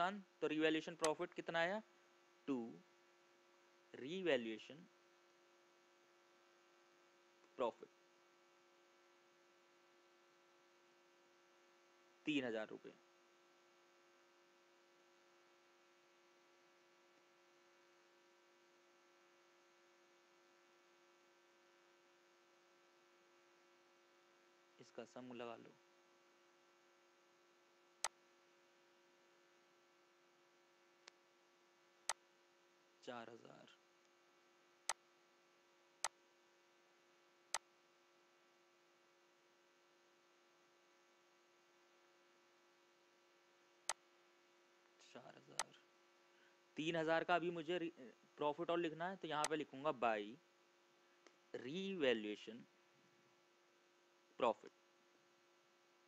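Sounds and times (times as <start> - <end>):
faint electrical hum: 0.0 - 56.0.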